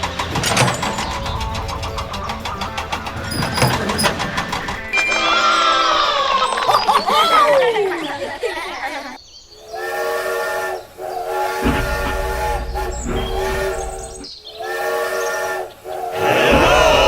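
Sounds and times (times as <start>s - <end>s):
multi-tone horn blasts: 0.0s - 6.6s, 9.6s - 17.0s.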